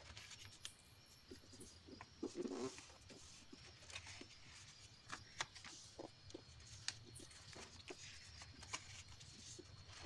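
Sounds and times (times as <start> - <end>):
paper being folded: 0.0 - 10.0.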